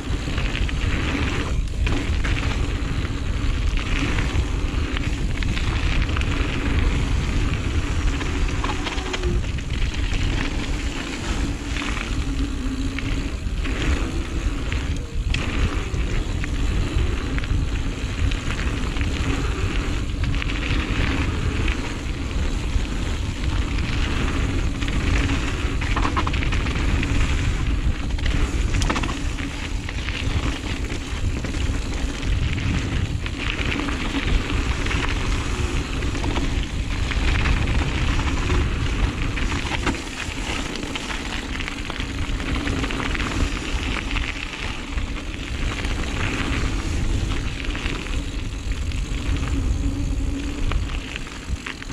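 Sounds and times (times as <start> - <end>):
bike chain and frame rattles: 0.0 - 51.9
bike tyre rumble: 0.0 - 51.9
wind rush on microphone: 0.0 - 51.9.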